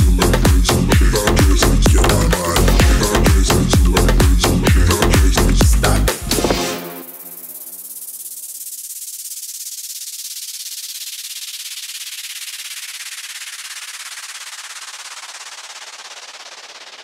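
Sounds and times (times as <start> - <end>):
hissing white-noise sweep: 0.0 - 17.0.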